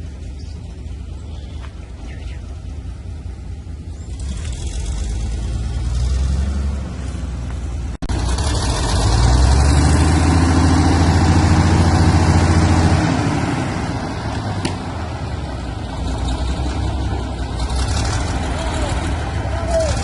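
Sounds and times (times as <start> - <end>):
tractor engine running hard: 0.0 - 7.1, 7.7 - 20.0.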